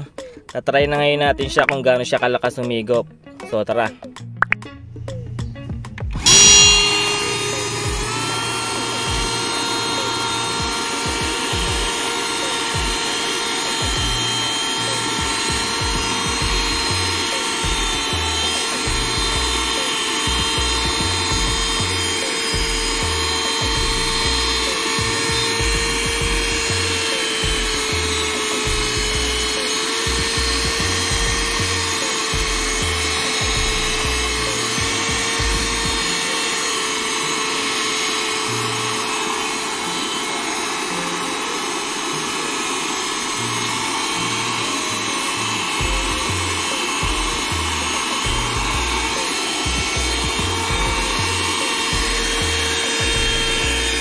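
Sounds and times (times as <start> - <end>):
handheld vacuum cleaner running: 6.2 - 54.0.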